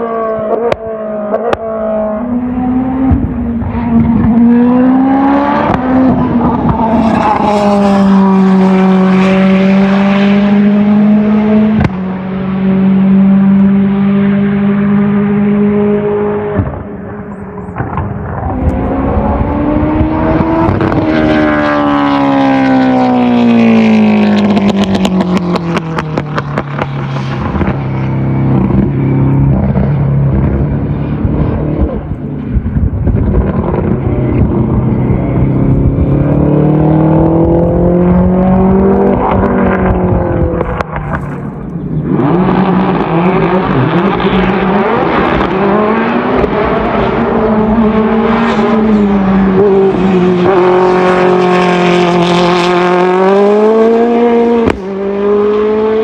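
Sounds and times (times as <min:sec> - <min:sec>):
car engine at high revs: 0:00.0 - 0:56.0
race car engine: 0:00.0 - 0:56.0.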